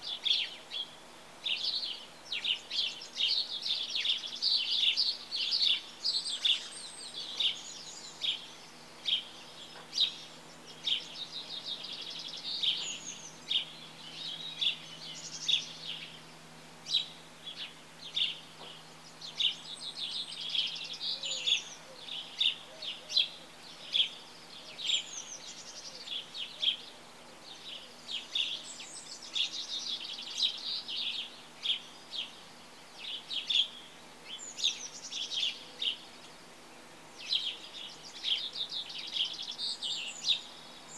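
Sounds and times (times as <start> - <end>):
birds chirping: 0.0 - 40.9
faint low hum: 0.0 - 40.9.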